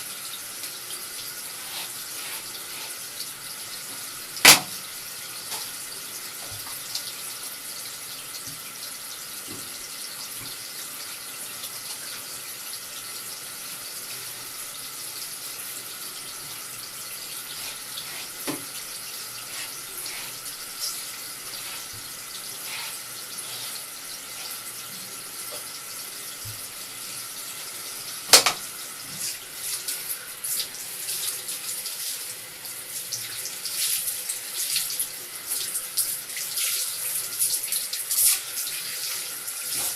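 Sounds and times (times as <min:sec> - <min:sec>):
tap water running into basin: 0:00.0 - 0:39.9.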